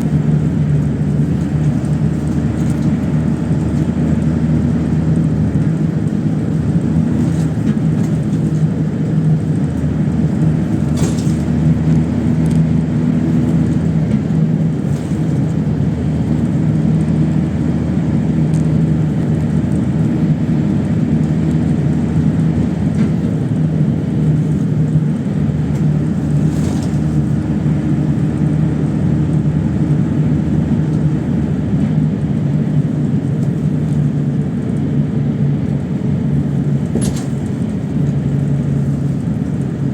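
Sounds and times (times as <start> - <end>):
bus engine drone from inside: 0.0 - 39.9.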